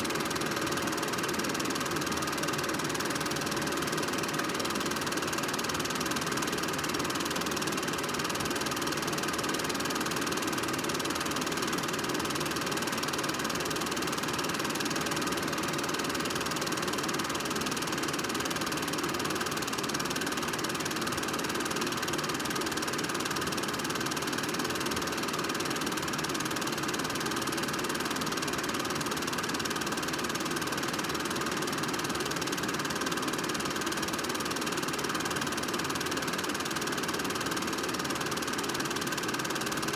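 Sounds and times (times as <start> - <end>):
film projector whirring and clattering: 0.0 - 39.9.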